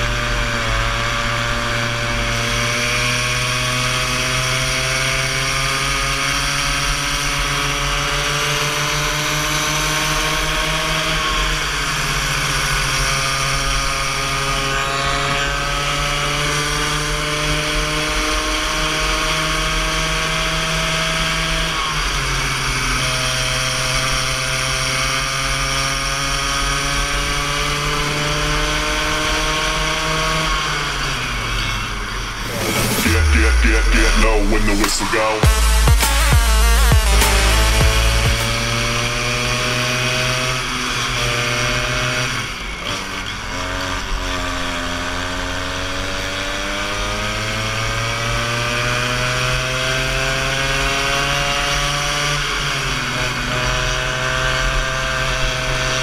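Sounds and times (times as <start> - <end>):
go-kart engine at full throttle: 0.0 - 33.4, 37.0 - 56.0.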